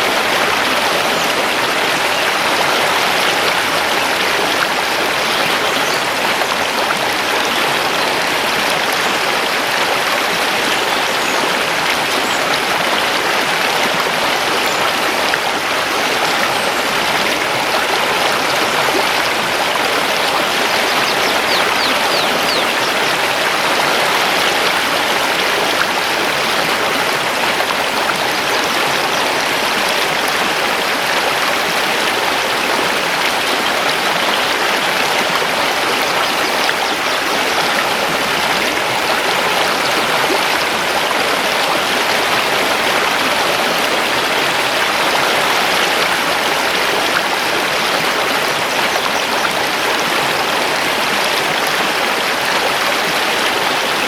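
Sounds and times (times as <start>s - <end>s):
river water rushing over stones: 0.0s - 54.0s.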